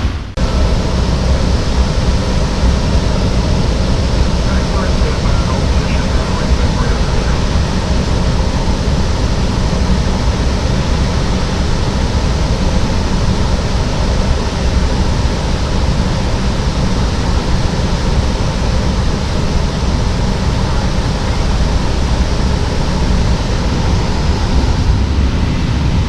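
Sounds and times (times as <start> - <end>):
turboprop aircraft cabin noise: 0.0 - 26.0.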